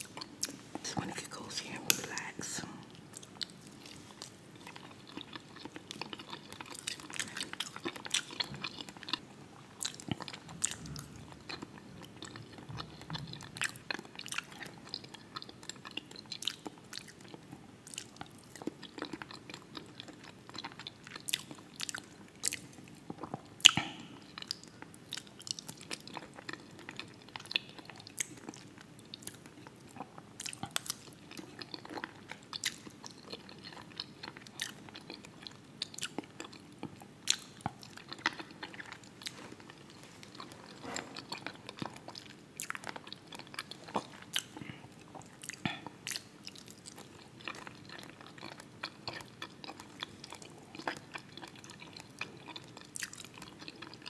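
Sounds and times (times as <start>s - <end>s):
person chewing: 1.4s - 54.0s.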